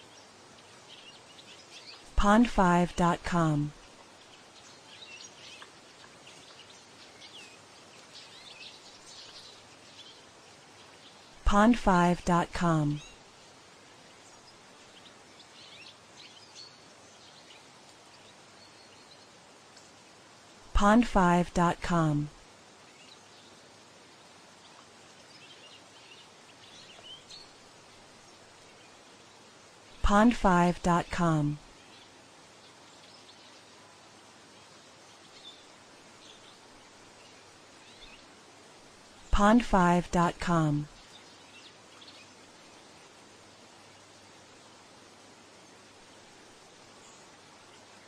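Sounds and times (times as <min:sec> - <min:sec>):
faint birdsong: 0:00.0 - 0:48.0
steady background hiss: 0:00.0 - 0:48.0.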